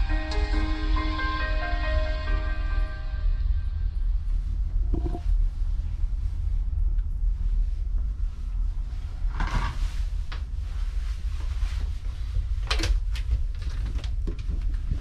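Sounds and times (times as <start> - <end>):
low ferry hum: 0.0 - 15.0.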